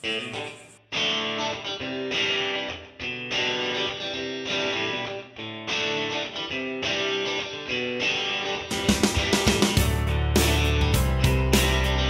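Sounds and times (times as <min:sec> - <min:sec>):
guitar tune strummed and plucked: 0:00.0 - 0:12.0.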